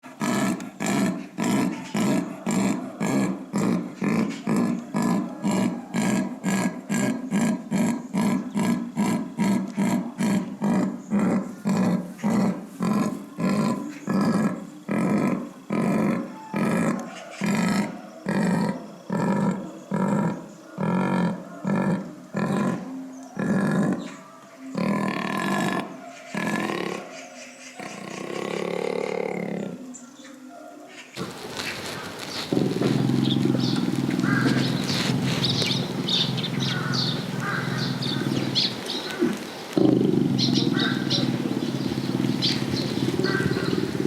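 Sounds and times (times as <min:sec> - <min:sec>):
jaguar grunting call: 0:00.0 - 0:30.0, 0:31.2 - 0:44.0.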